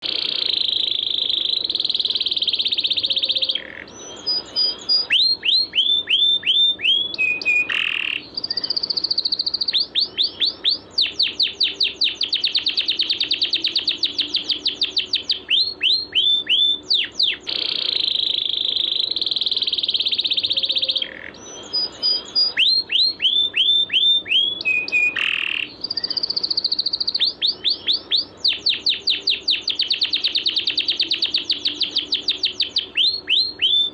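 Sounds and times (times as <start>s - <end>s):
buzzy bird trill: 0.0s - 33.9s
sharp down-slurred bird whistles: 0.0s - 33.9s.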